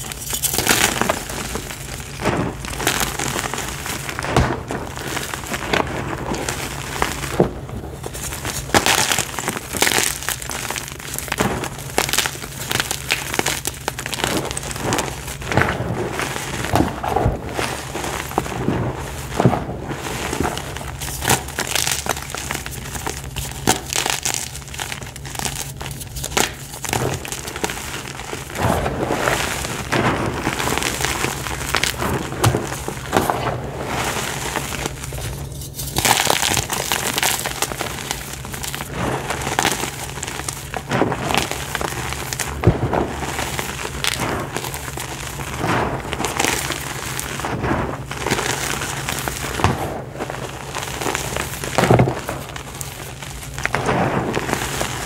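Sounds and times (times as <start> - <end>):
dry earth crunching in hands: 0.0 - 55.0.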